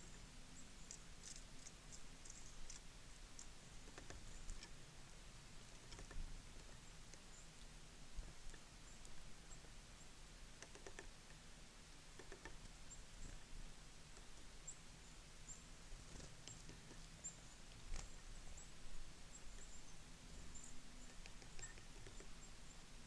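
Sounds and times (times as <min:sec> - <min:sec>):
songbirds chipping: 0:00.0 - 0:23.0.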